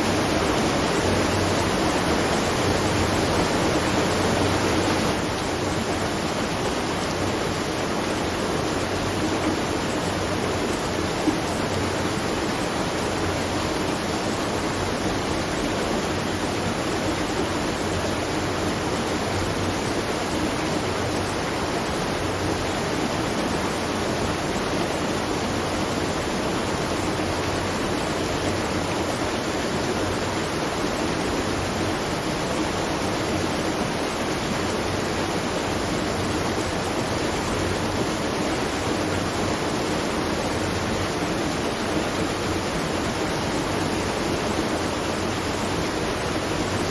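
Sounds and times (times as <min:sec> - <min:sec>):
water rushing at a watermill: 0:00.0 - 0:46.9.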